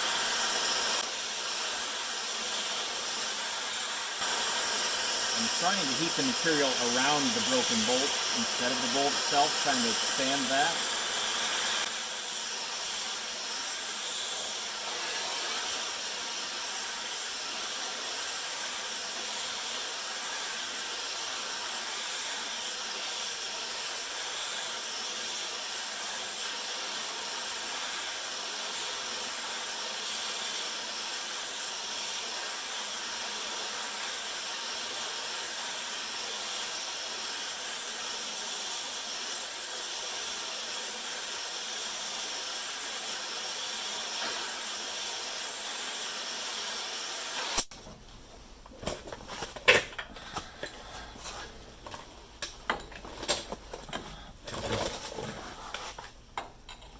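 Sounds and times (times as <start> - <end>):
gas torch flame hissing: 0.0 - 56.9.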